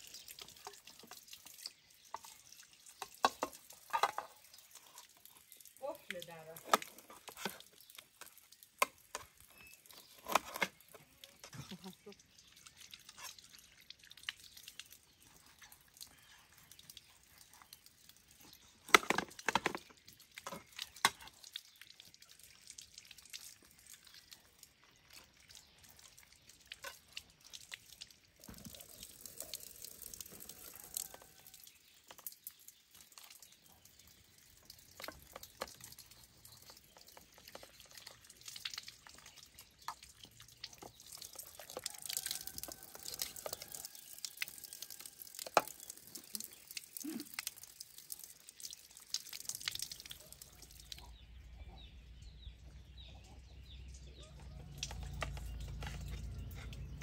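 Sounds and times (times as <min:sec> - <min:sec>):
tap water splashing on ground: 0:00.0 - 0:11.9, 0:12.6 - 0:51.2, 0:53.9 - 0:57.0.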